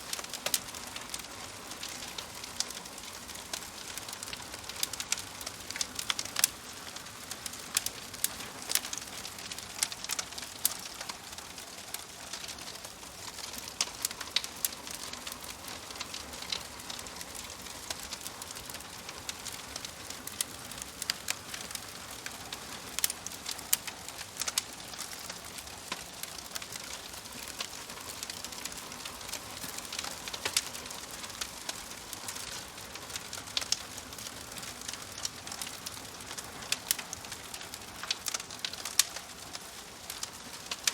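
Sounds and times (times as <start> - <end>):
wood stove fire crackling: 0.0 - 40.9.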